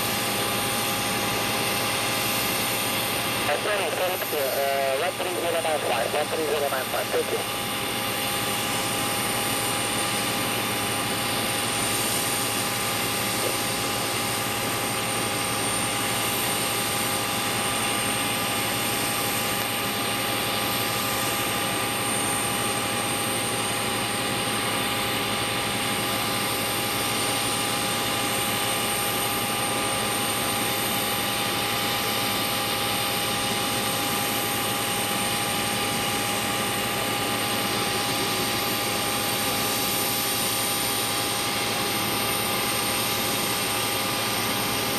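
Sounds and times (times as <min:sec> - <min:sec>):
jet turbine whine: 0:00.0 - 0:44.9.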